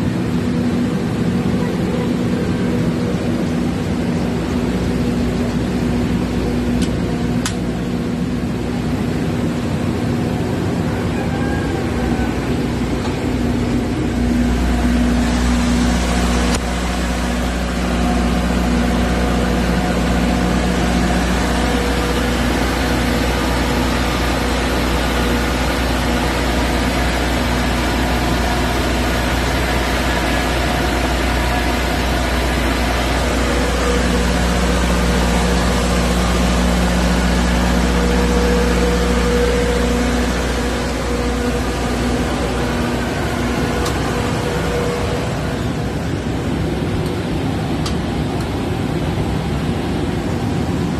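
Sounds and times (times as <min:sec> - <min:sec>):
diesel generator humming: 0:00.0 - 0:50.9.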